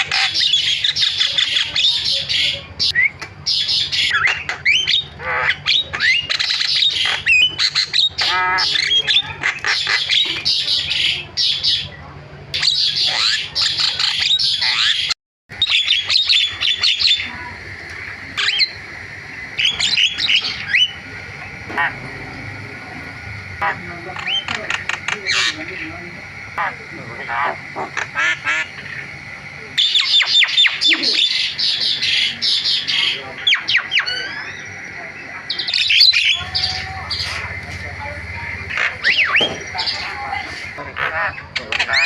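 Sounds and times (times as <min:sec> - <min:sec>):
myna singing harsh squawks and chirps: 0:00.0 - 0:42.0.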